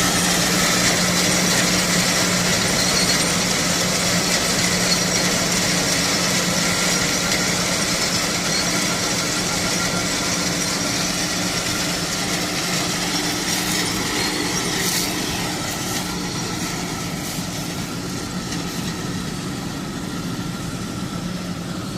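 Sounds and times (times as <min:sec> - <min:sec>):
harvesting machine droning: 0:00.0 - 0:21.9.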